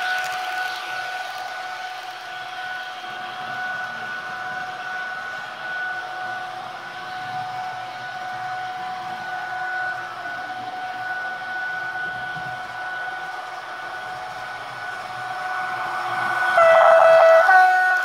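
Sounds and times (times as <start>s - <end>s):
high electric whine: 0.0s - 18.0s.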